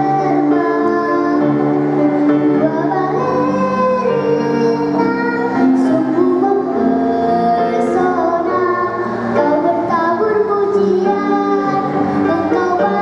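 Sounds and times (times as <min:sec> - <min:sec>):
girl singing: 0:00.0 - 0:13.0
instrumental accompaniment: 0:00.0 - 0:13.0.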